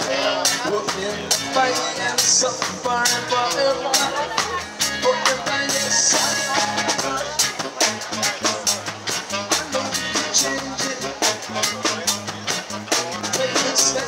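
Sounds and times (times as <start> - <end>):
acoustic guitars strumming: 0.0 - 14.0
drum kit beat: 0.0 - 14.0.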